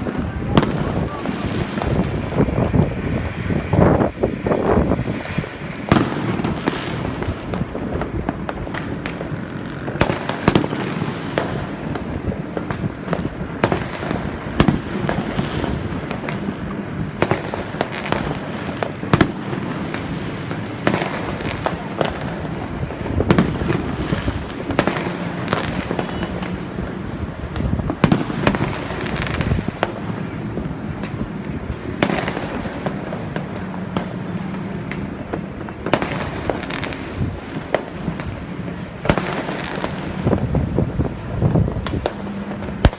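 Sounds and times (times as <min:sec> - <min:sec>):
fireworks bangs: 0:00.0 - 0:42.9
fireworks crackle: 0:00.0 - 0:42.9.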